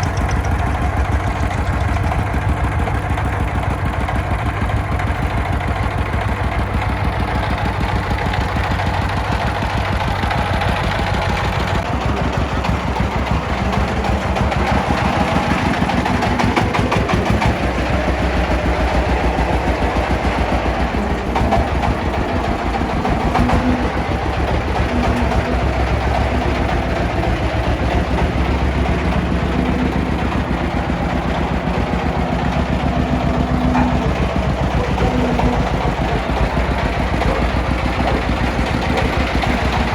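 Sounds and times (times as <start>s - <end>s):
excavator diesel engine running: 0.0s - 39.9s
farm truck engine running: 0.0s - 39.9s.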